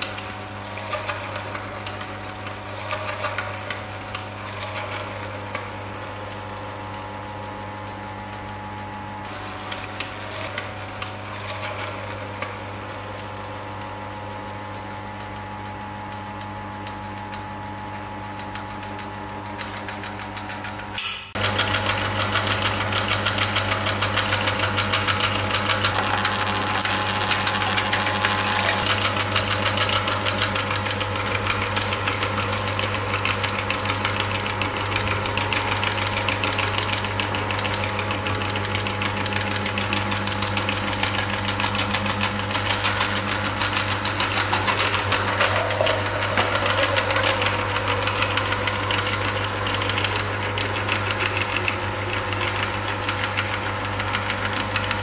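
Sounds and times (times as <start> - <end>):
meat grinder running: 0.0 - 55.0.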